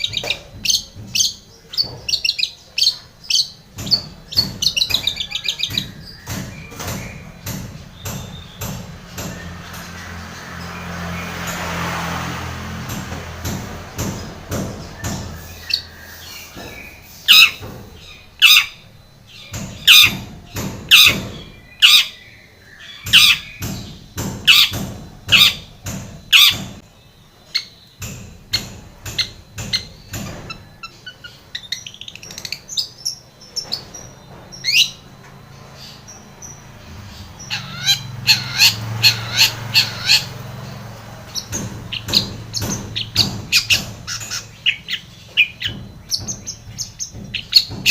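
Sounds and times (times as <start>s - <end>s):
bird chatter: 0.0s - 11.8s, 13.2s - 47.9s
bird harsh calls: 0.0s - 11.8s, 13.3s - 47.9s.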